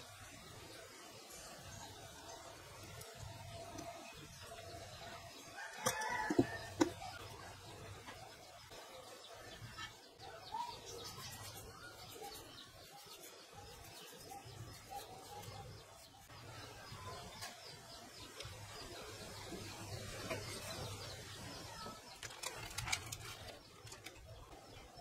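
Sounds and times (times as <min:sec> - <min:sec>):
birds chirping and cooing: 0:03.4 - 0:25.0.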